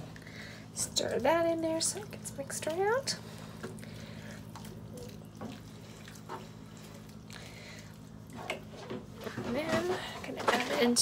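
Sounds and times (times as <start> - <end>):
steady low hum: 0.0 - 11.0
spoon stirring wet filling: 0.9 - 11.0.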